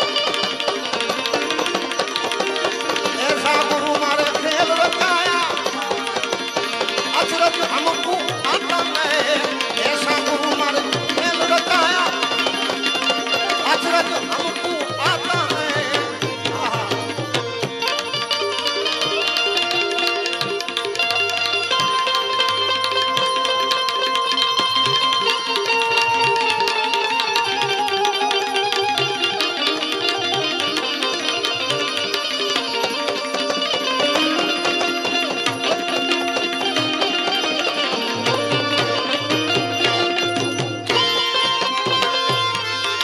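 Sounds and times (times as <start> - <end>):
harmonium chords: 0.0 - 43.0
tabla playing: 0.0 - 43.0
wavering melodic lead line: 0.0 - 43.0.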